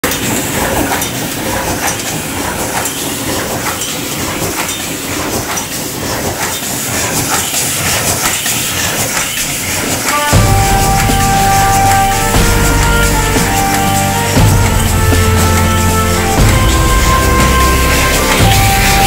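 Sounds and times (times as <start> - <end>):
forging machine metallic clatter: 0.0 - 19.0.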